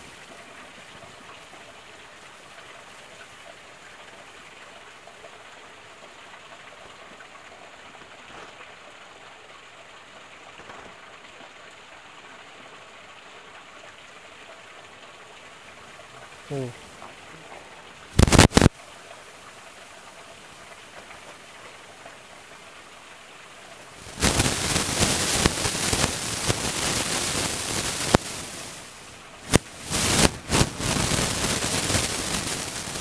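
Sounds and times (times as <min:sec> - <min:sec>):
running water hiss: 0:00.0 - 0:33.0.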